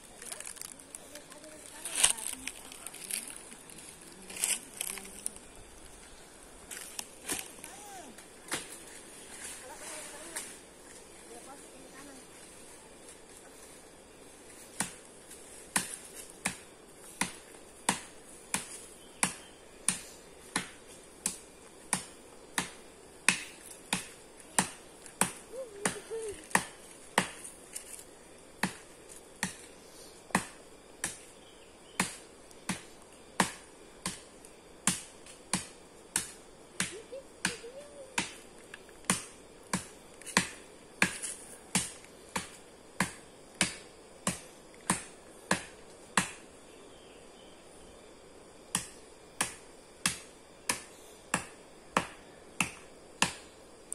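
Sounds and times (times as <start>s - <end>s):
steady high hiss: 0.0s - 53.9s.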